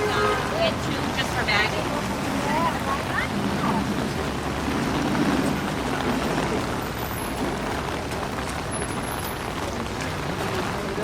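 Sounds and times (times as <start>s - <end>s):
vehicles passing: 0.0s - 11.0s
wet tyres: 0.0s - 11.0s.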